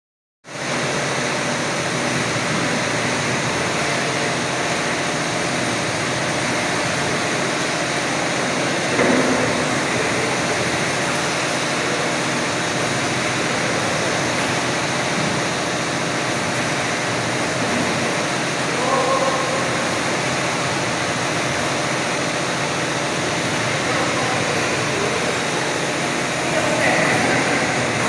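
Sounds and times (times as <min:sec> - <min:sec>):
sealing machine whirring and hissing: 0:00.6 - 0:28.0.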